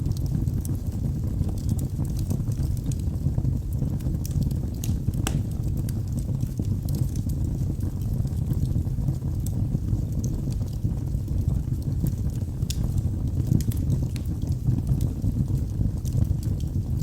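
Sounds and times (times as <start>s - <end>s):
fire crackling in fireplace: 0.0s - 17.0s.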